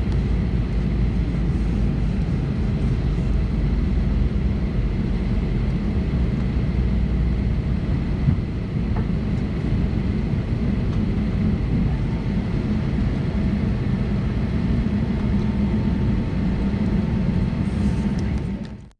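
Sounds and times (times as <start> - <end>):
airplane cabin engine rumble: 0.0 - 18.9.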